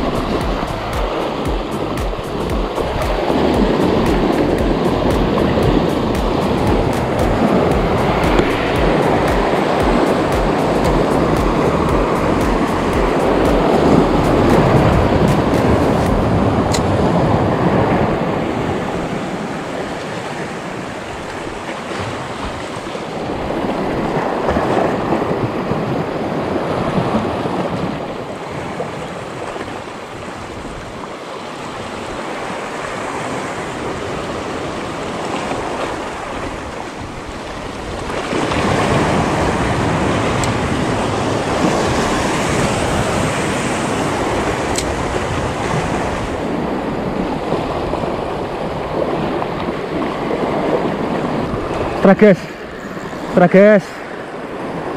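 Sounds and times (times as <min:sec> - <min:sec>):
surf washing over rocks: 0:00.0 - 0:54.9.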